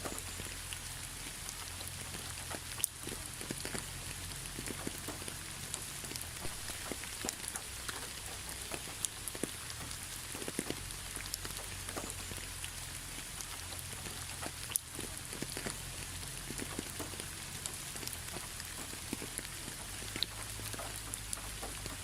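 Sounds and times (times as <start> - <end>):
raindrops pattering: 0.0 - 22.0
steady rain hiss: 0.0 - 22.0.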